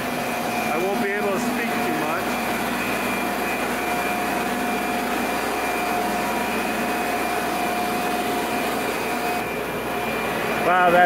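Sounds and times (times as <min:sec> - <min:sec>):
aeration blowers droning: 0:00.0 - 0:11.0
constant whine: 0:00.0 - 0:11.0.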